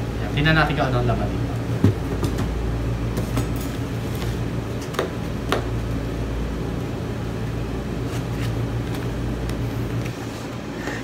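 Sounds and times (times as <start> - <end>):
appliance humming: 0.0 - 11.0.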